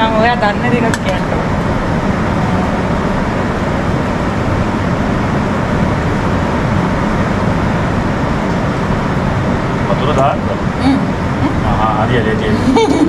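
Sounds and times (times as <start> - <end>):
loud rushing noise: 0.0 - 13.0.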